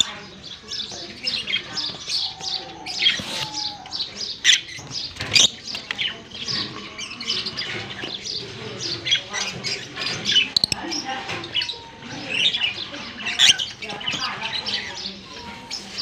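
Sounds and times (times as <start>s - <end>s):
lovebirds chirping: 0.0s - 16.0s.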